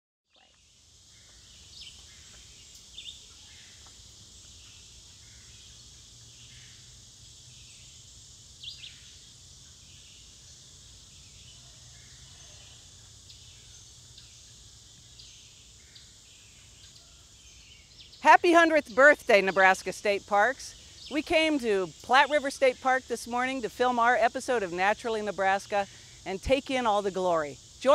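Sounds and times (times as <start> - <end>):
high insect drone: 0.4 - 27.9.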